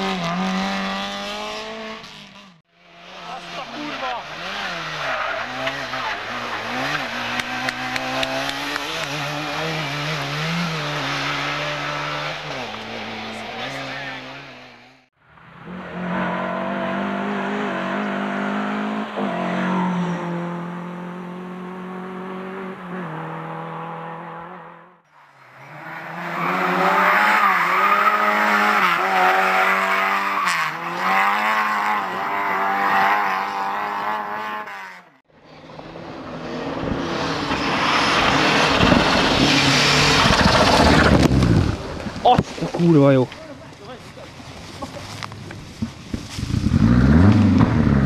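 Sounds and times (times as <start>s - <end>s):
race car engine revving: 0.0s - 43.6s, 46.3s - 48.0s.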